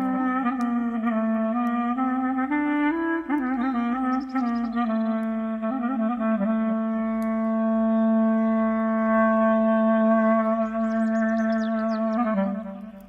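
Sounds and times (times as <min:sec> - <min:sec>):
clarinet playing slow melody: 0:00.0 - 0:13.0.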